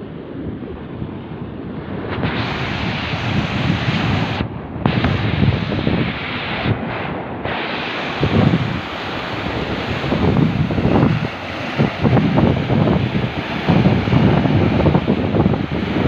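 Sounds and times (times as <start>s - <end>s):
small waves breaking on beach: 0.0s - 16.0s
wind buffeting microphone: 0.0s - 16.0s.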